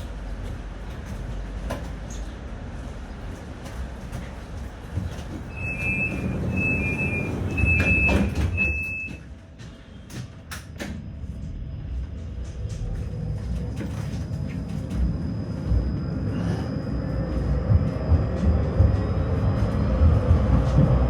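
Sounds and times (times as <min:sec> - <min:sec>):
tram rumble: 0:00.0 - 0:21.0.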